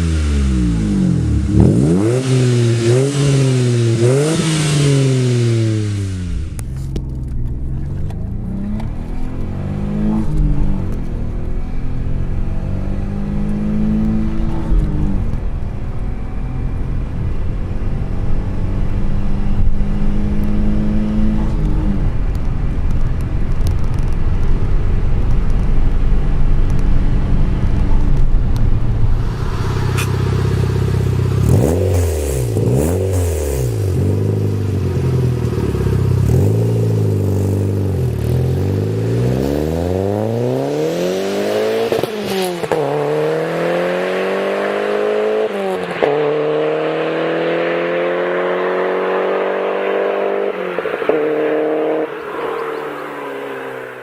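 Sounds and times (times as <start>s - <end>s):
car engine accelerating: 0.0s - 54.0s
car engine revving: 0.0s - 54.0s.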